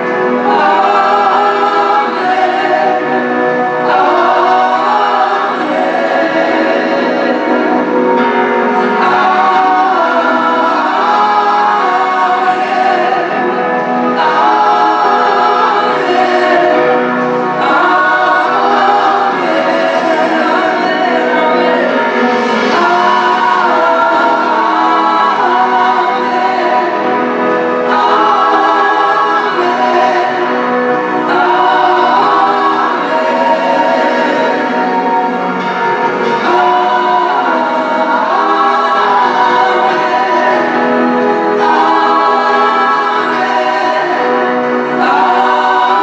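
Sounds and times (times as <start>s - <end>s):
choir singing held notes: 0.0s - 46.0s.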